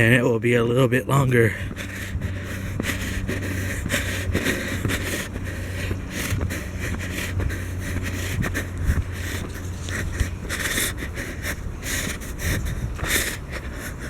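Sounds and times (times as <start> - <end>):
steady low rumble: 0.0 - 14.0
clothing and microphone rustling: 1.5 - 14.0
footsteps: 1.5 - 14.0.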